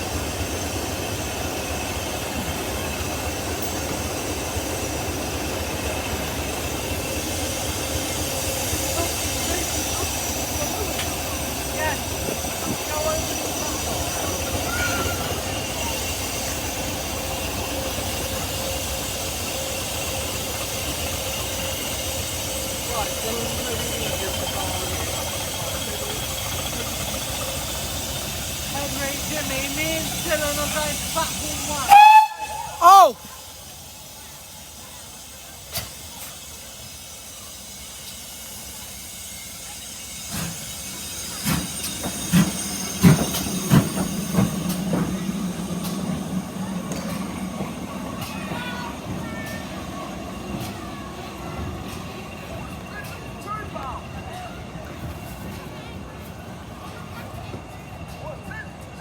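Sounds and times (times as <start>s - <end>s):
wheels clacking over rail joints: 0.0s - 32.5s, 40.2s - 59.0s
locomotive idling low rumble: 0.0s - 59.0s
train rolling: 0.0s - 59.0s.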